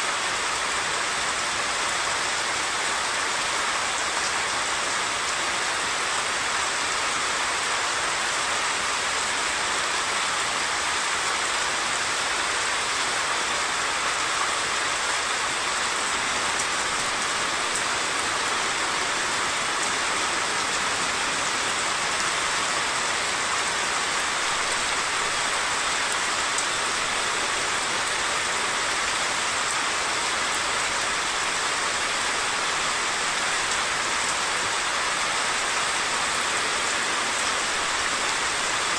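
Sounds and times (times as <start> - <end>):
flooded stream rushing: 0.0 - 38.9
heavy rain hissing: 0.0 - 38.9.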